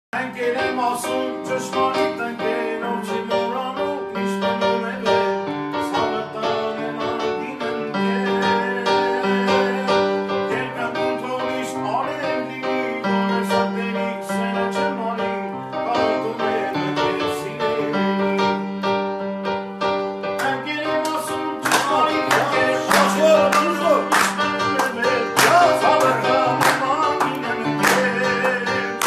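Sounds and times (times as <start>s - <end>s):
man singing: 0.1s - 18.9s, 20.3s - 29.0s
electronic keyboard piano melody: 0.2s - 29.0s.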